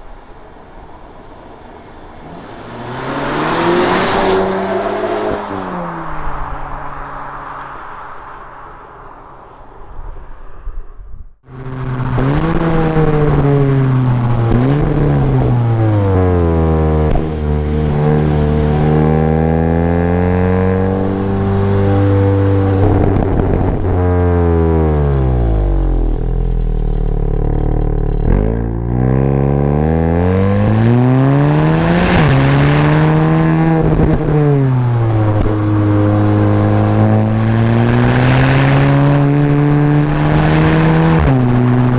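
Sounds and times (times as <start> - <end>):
car engine revving: 2.2 - 7.8, 11.4 - 41.9.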